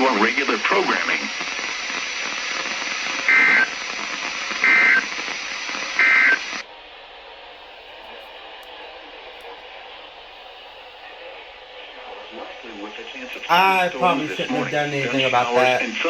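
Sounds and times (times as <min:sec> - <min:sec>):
steady radio hiss: 0:00.0 - 0:16.0.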